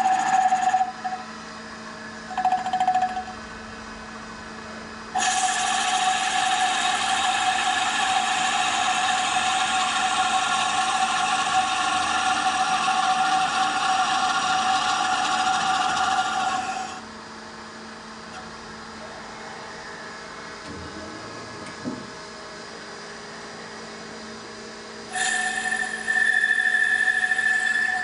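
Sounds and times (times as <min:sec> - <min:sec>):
lathe machine whine: 0:00.0 - 0:03.4, 0:04.9 - 0:28.0.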